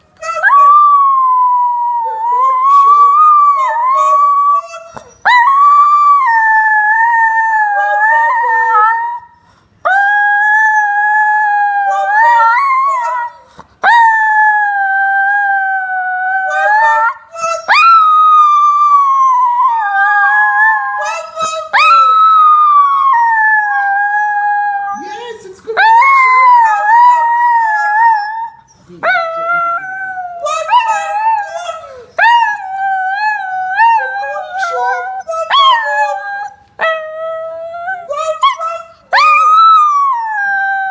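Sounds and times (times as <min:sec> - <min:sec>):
dog howling: 0:00.2 - 0:25.2, 0:25.8 - 0:40.9.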